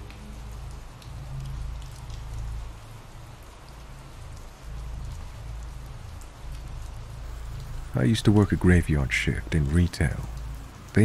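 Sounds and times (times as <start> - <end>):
rain hissing: 0.0 - 11.0
raindrops ticking: 0.0 - 11.0.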